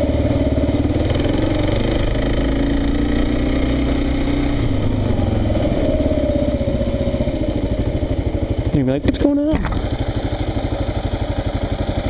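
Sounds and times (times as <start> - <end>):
motorcycle engine climbing hill: 0.0 - 12.0.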